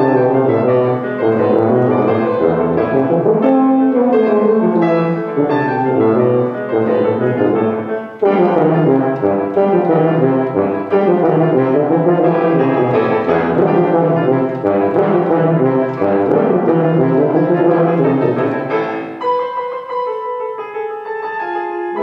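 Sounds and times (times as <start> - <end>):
grand piano: 0.0 - 22.0
tuba: 0.0 - 22.0.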